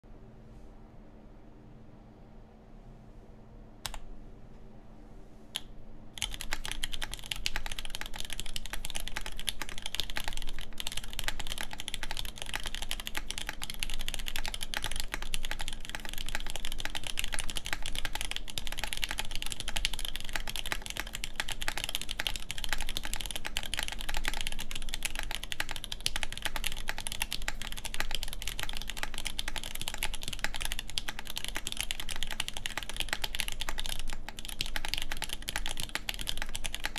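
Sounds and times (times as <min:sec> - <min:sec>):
mechanical keyboard typing: 0:06.2 - 0:36.9.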